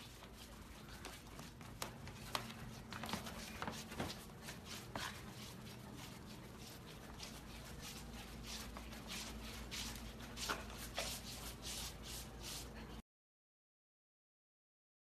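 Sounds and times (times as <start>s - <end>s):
swishing and rubbing on hardwood floor: 0.0s - 13.0s.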